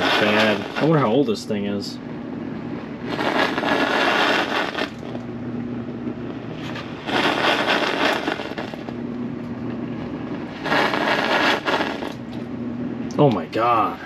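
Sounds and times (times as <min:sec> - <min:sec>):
loud crackling hissing bursts: 0:00.0 - 0:09.1, 0:09.7 - 0:12.4
appliance humming: 0:00.0 - 0:14.0.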